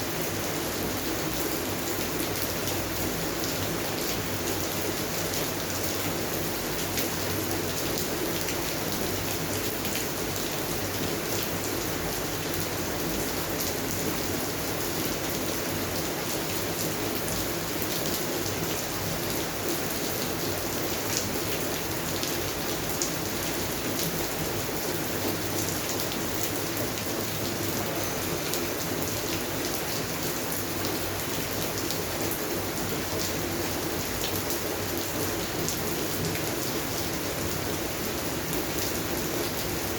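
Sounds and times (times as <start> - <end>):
rain on plants: 0.0 - 39.9.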